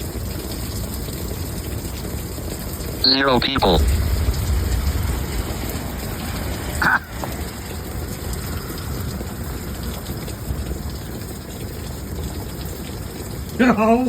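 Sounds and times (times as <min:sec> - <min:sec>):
heavy rain hissing: 0:00.0 - 0:14.0
low thunder rumble: 0:00.8 - 0:13.5.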